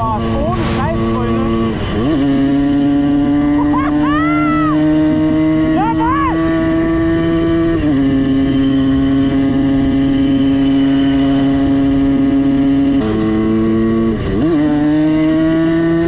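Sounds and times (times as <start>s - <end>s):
two-stroke engine revving high: 0.0s - 16.0s.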